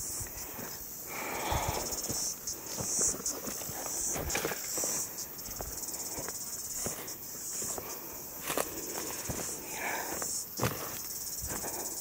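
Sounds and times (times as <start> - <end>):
insects chirping: 0.0 - 12.0
footsteps crunching on dry leaves: 1.6 - 11.9.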